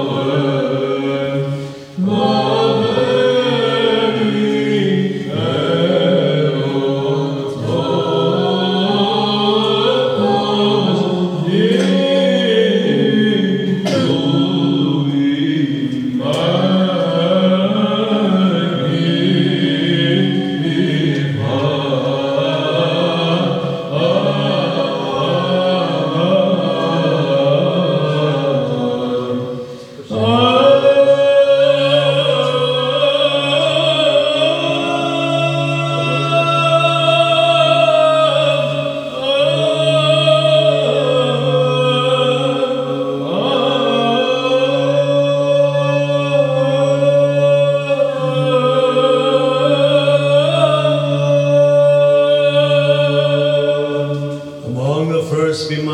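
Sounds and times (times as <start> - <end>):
men chanting a cappella: 0.0 - 55.9.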